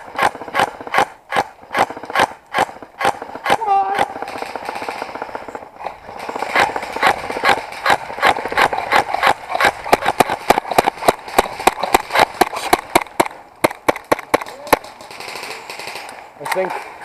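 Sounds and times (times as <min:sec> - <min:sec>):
airsoft pistol rapid shots: 0:00.0 - 0:05.4, 0:06.2 - 0:16.1.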